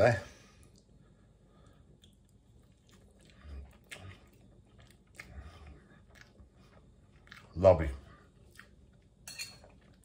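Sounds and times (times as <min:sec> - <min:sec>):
person chewing: 0:00.6 - 0:10.0.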